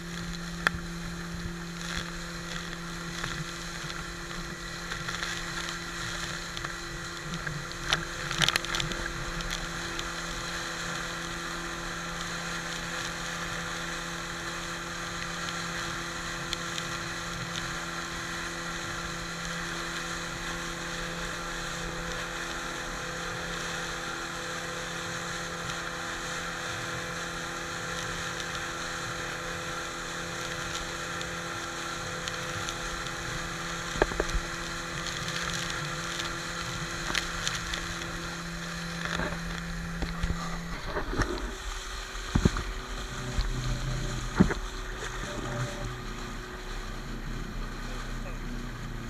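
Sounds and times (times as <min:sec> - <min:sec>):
outboard motor running: 0:00.0 - 0:49.0.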